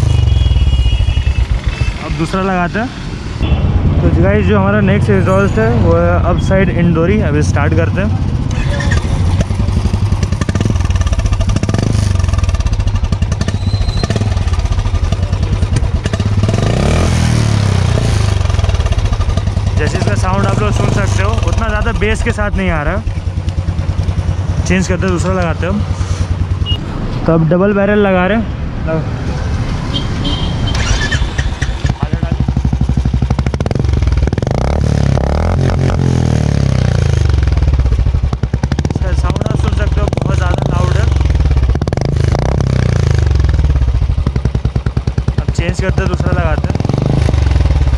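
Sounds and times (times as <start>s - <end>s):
motorcycle engine exhaust beats: 0.0s - 2.3s, 6.4s - 26.8s, 30.2s - 47.9s.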